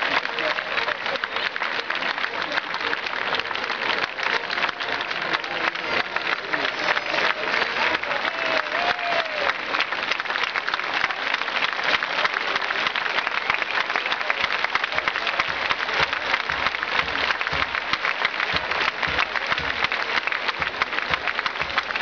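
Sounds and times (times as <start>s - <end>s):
crowd applauding: 0.0s - 22.0s.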